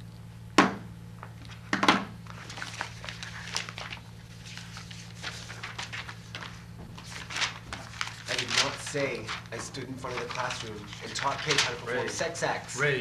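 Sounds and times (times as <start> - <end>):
low electrical hum: 0.0 - 13.0
papers rustling on a table: 1.5 - 12.8.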